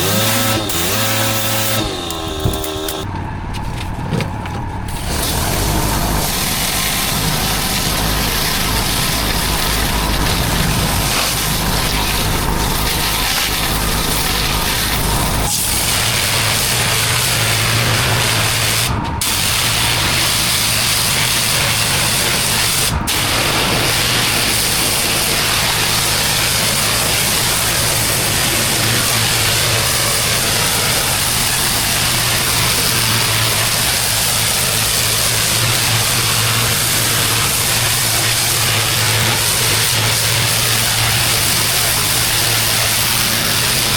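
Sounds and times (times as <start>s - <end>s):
water jet hissing on paving: 0.0s - 3.1s, 4.9s - 43.9s
pressure washer engine humming: 0.0s - 43.9s.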